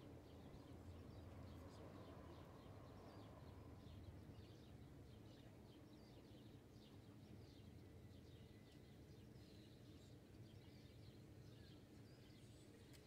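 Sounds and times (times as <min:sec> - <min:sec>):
faint low outdoor rumble: 0:00.0 - 0:13.0
faint bird chirps: 0:00.1 - 0:13.0.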